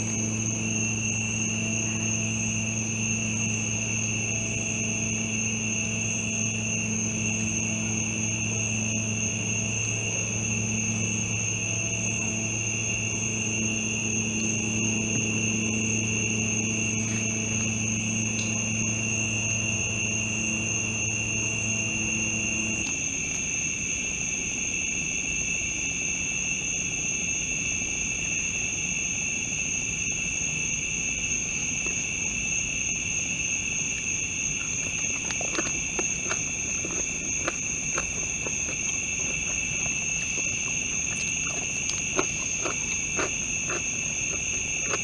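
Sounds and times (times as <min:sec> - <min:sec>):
low motor-like hum: 0:00.0 - 0:24.6, 0:30.9 - 0:45.0
night insects buzzing: 0:00.0 - 0:45.0.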